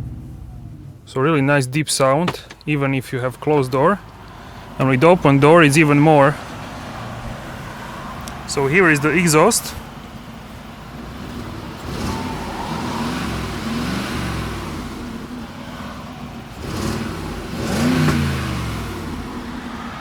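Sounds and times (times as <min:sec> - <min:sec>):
car exhaust revving: 0:00.0 - 0:20.0.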